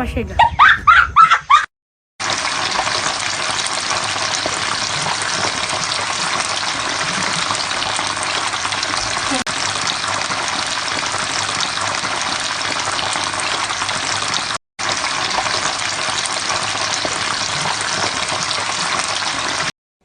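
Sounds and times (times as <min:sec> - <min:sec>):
rain hissing: 0:02.2 - 0:19.7.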